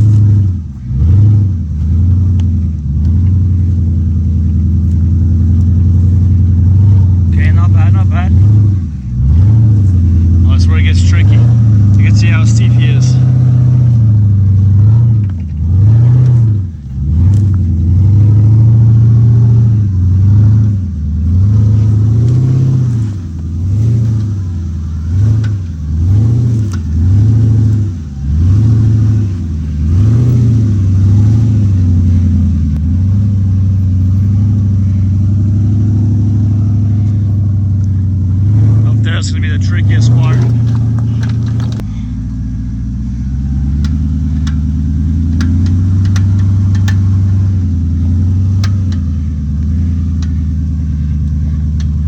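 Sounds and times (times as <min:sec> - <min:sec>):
suv engine revving: 0:00.0 - 0:52.0.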